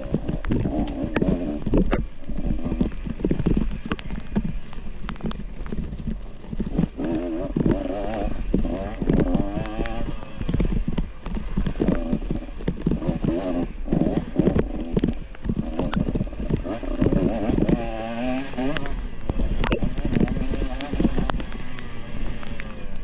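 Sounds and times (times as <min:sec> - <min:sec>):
dirt bike engine revving: 0:00.0 - 0:05.0, 0:05.8 - 0:23.0
knocks and clatters over rough ground: 0:00.0 - 0:23.0.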